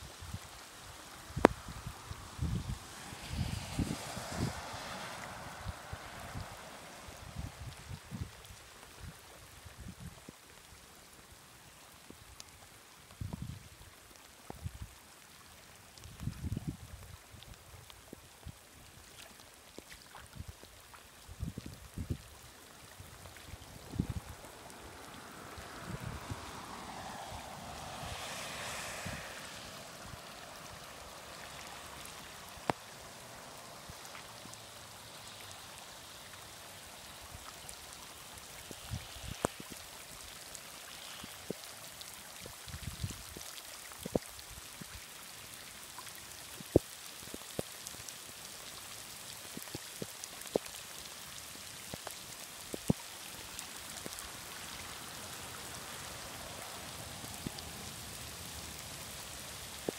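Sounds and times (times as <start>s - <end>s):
water flowing over sand: 0.0s - 59.9s.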